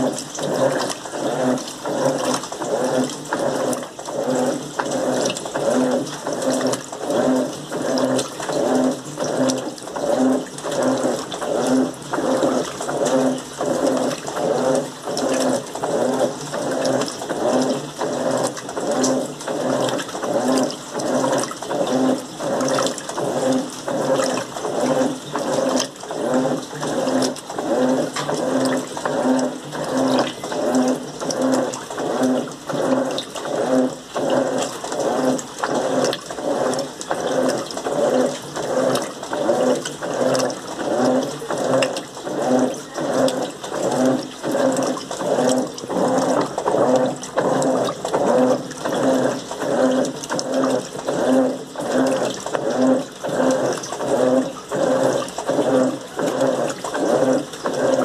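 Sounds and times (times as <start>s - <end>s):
washing machine agitating: 0.0s - 58.0s
water sloshing: 0.0s - 58.0s.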